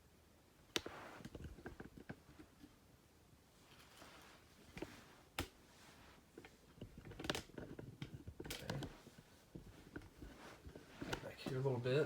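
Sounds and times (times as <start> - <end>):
soft rustling: 0.6 - 12.0.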